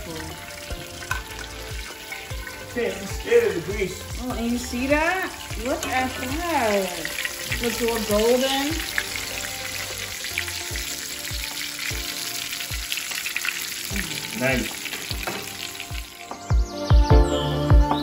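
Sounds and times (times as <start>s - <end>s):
music with thumping beat: 0.0s - 9.4s, 10.5s - 13.1s, 13.9s - 18.0s
fish sizzling in oil: 0.0s - 16.6s.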